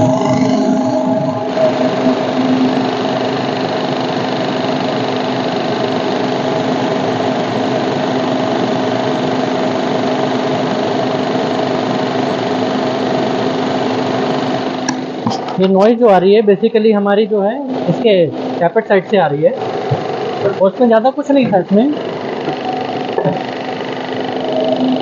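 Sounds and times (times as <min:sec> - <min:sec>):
car engine running: 0:00.0 - 0:15.4, 0:17.5 - 0:25.0
abnormal steady vacuum noise: 0:00.0 - 0:25.0.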